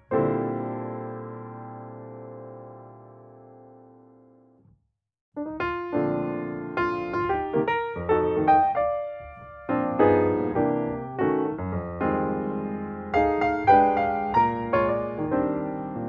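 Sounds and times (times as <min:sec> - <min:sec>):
piano music: 0:00.0 - 0:04.4, 0:05.4 - 0:16.0.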